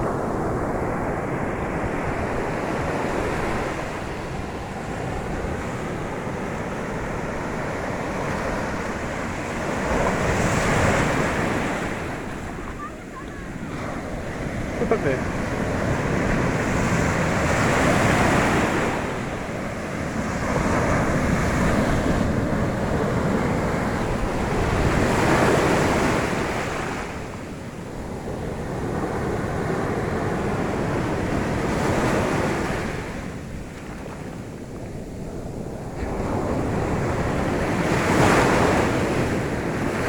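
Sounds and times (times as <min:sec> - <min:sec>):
sea waves washing onto shore: 0:00.0 - 0:40.0
wind rumbling on microphone: 0:00.0 - 0:40.0.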